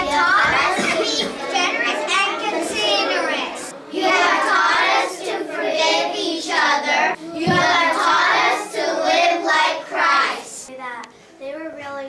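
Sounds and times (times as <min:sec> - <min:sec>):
children singing in unison: 0:00.0 - 0:10.7.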